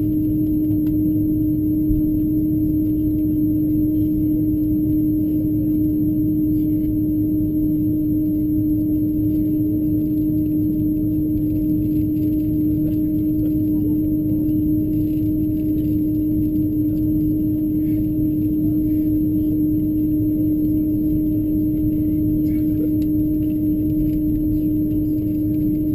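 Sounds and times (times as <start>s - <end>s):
airliner cabin engine drone: 0.0s - 25.9s
low rumble with humming tone: 0.0s - 25.9s.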